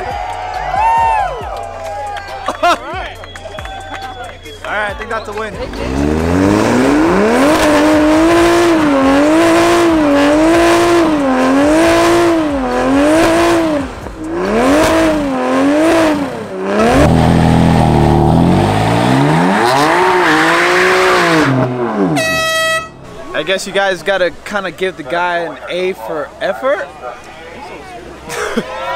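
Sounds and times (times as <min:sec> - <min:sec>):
car engine revving: 0:01.5 - 0:27.2.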